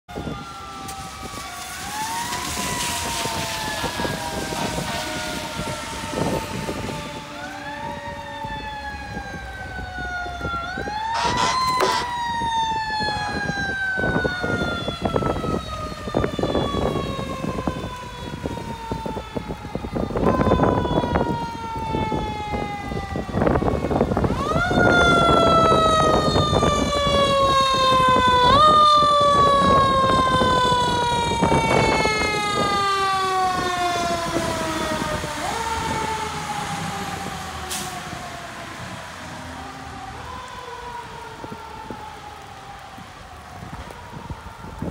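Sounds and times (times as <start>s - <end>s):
fire engine siren wailing: 0.0s - 44.9s.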